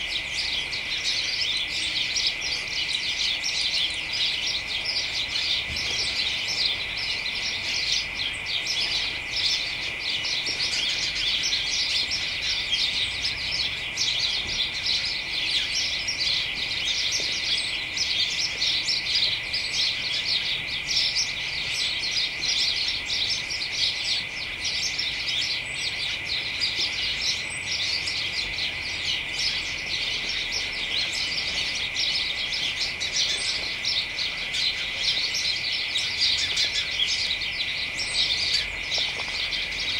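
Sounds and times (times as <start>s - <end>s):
sparrows chirping: 0.0s - 39.9s
steady high whine: 0.0s - 39.9s.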